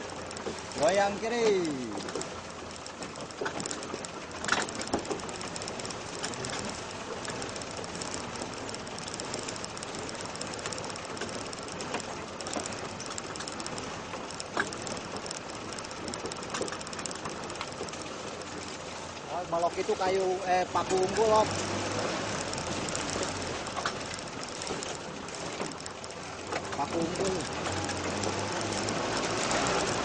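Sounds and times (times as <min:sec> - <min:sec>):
fast mechanical ticking: 0:00.0 - 0:30.0
vehicle engine running: 0:00.0 - 0:30.0.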